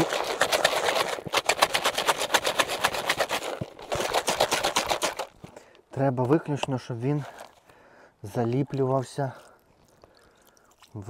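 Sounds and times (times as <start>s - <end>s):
groundbait mixed in bucket: 0.0s - 11.0s.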